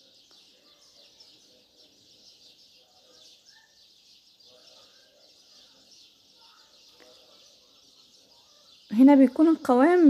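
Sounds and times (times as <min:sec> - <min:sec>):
faint chirping: 0:00.0 - 0:10.0.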